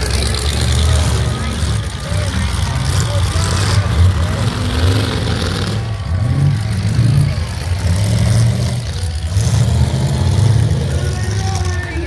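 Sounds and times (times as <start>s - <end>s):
car engines revving past: 0.0s - 12.0s.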